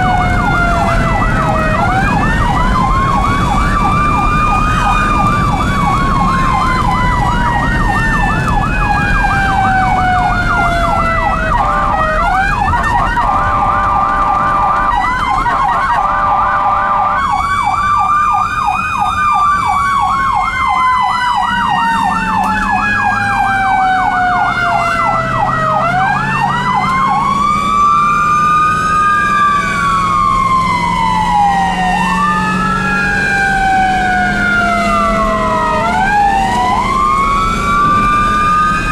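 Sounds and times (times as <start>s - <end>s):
electronic siren fast yelp: 0.0s - 38.9s
siren long falling tone: 0.0s - 38.9s.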